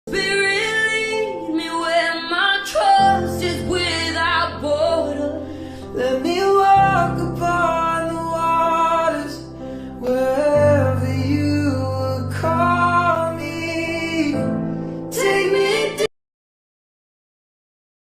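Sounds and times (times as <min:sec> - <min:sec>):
person singing: 0:00.1 - 0:16.1.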